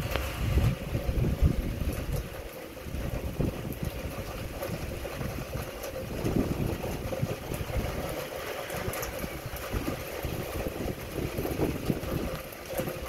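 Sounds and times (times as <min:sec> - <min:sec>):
heavy rain falling: 0:00.0 - 0:13.0
wind buffeting microphone: 0:00.0 - 0:13.0.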